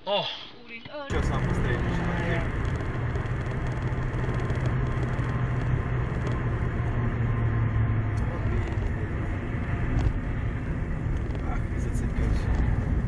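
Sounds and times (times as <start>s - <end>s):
car engine hum: 1.1s - 13.0s
road noise: 1.1s - 13.0s.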